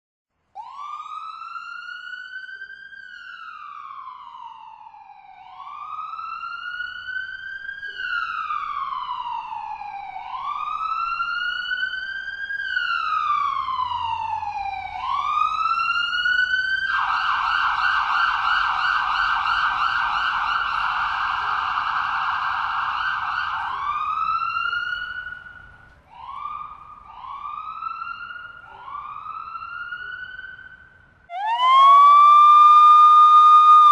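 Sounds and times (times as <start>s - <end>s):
police siren wailing: 0.6s - 33.9s.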